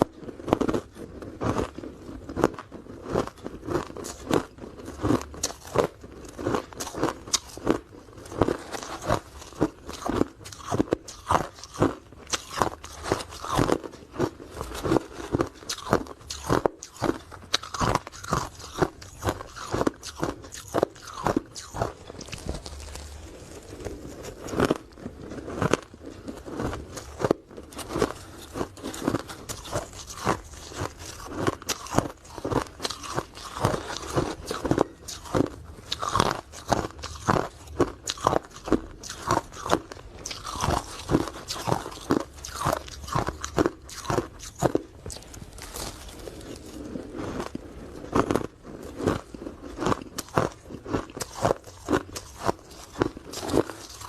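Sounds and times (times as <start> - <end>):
chewing ice cubes: 0.0 - 54.0.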